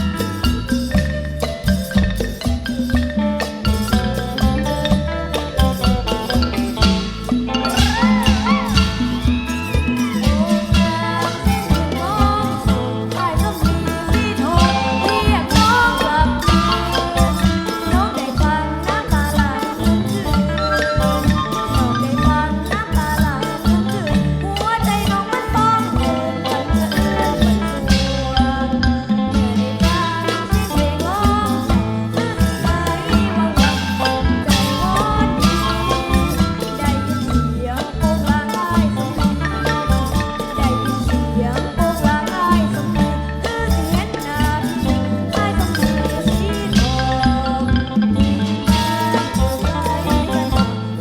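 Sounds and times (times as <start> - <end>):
drum beat and percussion: 0.0 - 51.0
folk ensemble instrumental: 0.0 - 51.0.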